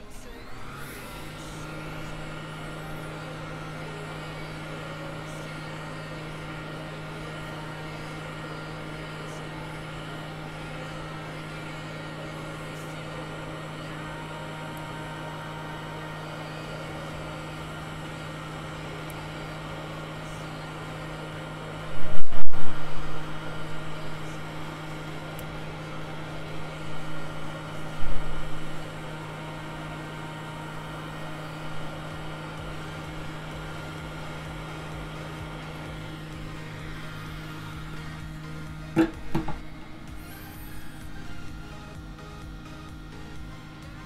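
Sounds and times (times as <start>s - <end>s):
hot air gun blowing: 0.0s - 44.0s.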